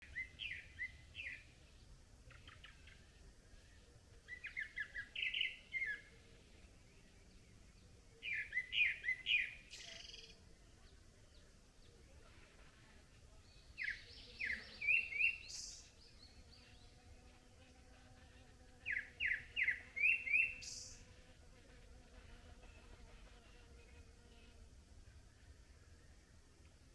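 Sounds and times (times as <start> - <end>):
songbird singing: 0.0 - 21.3, 22.2 - 26.9.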